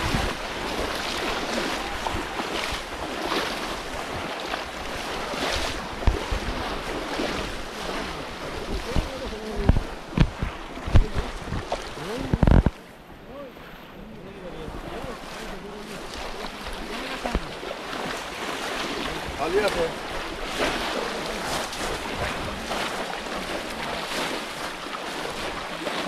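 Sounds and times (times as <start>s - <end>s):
wind buffeting microphone: 0.0s - 25.9s
floodwater splashing and sloshing: 0.0s - 26.0s.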